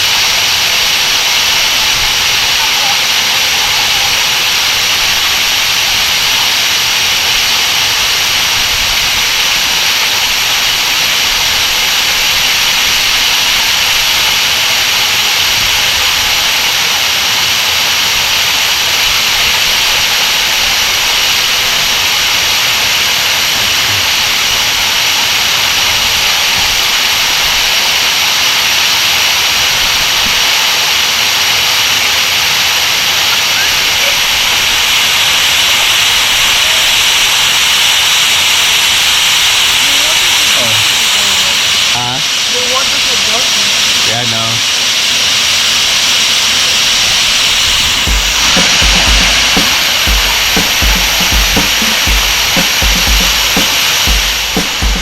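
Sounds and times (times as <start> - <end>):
waterfall pouring and splashing: 0.0 - 55.0.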